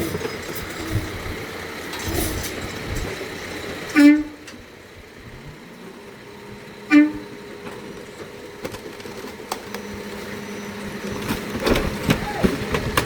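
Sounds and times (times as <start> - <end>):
garbage truck humming: 0.0 - 13.0.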